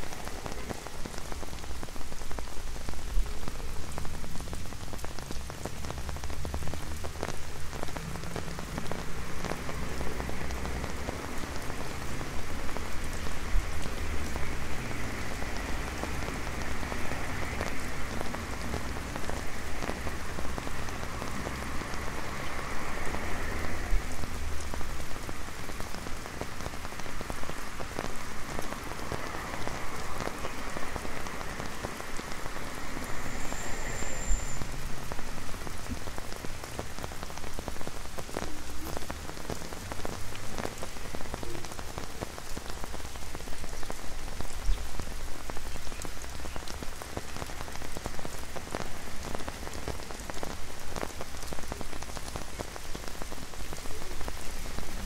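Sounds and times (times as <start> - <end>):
rain hissing on wet pavement: 0.0 - 55.0
rain on an umbrella: 0.0 - 55.0.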